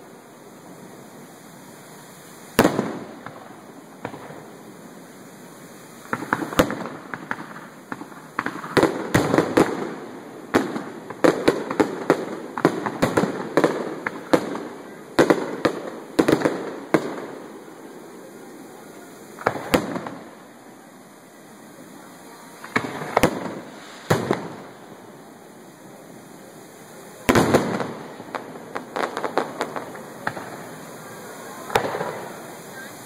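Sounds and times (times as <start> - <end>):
fireworks bursting: 0.0 - 33.0
fireworks crackling: 0.0 - 33.0.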